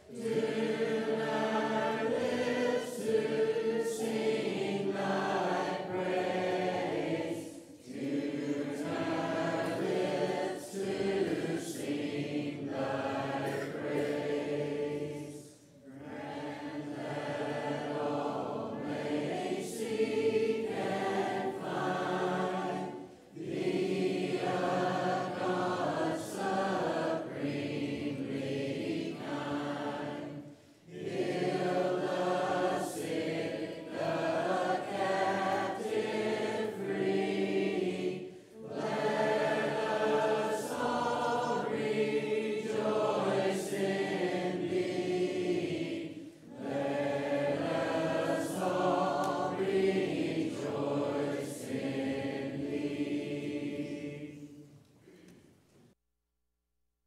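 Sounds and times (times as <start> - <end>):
congregation singing a hymn: 0.0 - 55.5.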